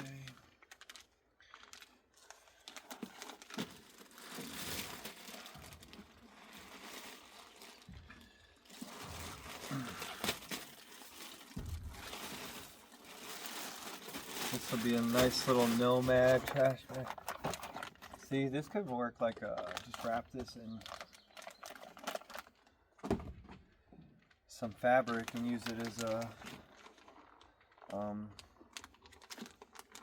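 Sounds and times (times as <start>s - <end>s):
plastic bag crinkling: 0.0s - 22.7s, 24.2s - 30.0s.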